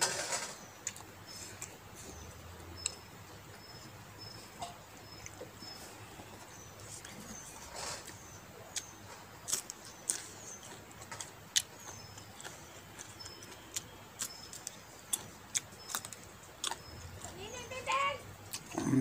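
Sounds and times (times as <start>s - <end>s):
chewing and lip-smacking: 0.8s - 4.4s, 5.0s - 17.7s, 18.3s - 19.0s.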